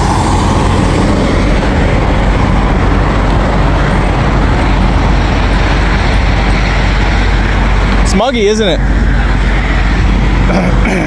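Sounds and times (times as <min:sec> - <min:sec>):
diesel trucks idling: 0:00.0 - 0:11.0.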